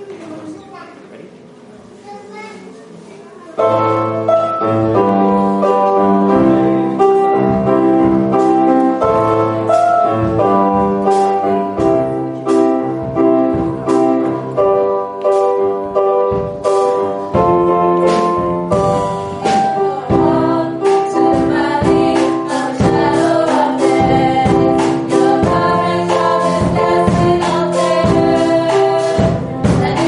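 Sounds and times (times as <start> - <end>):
keyboard playing chords: 3.6 - 30.0
steady beat: 5.0 - 30.0.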